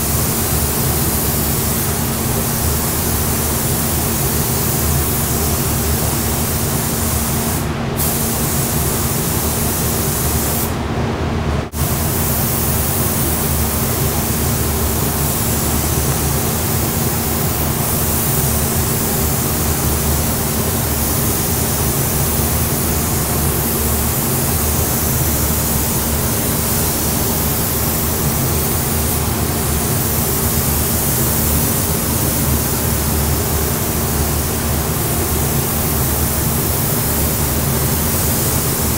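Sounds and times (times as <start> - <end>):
spray gun hissing: 0.0 - 10.8, 11.7 - 38.9.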